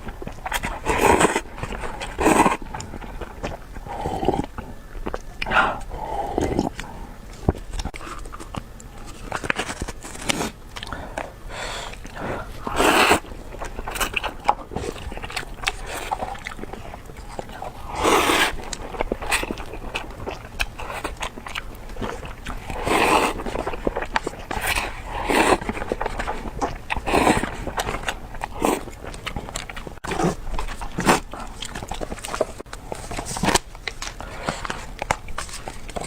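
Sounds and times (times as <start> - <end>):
person biting and chewing: 0.0 - 36.0.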